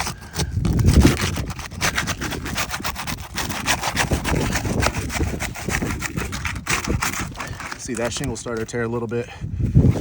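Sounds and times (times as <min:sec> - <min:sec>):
shingles tearing: 0:00.0 - 0:08.7
pry tool scraping shingles: 0:00.0 - 0:09.2.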